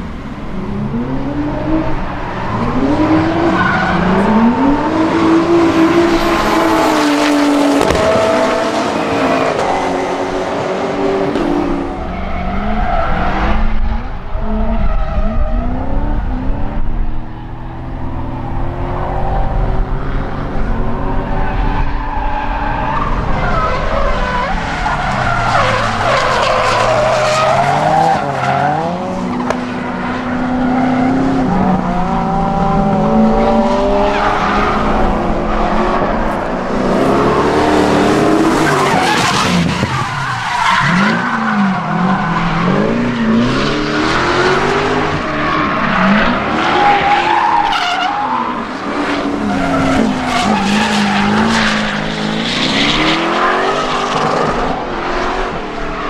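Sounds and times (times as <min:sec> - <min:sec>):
high-revving car engines: 0:00.0 - 0:56.0.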